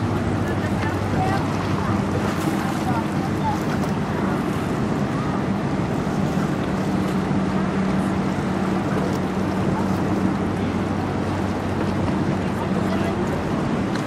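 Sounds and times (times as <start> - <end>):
ship engine drone: 0.0 - 14.0
waves washing: 0.0 - 14.0
wind buffeting microphone: 0.0 - 14.0.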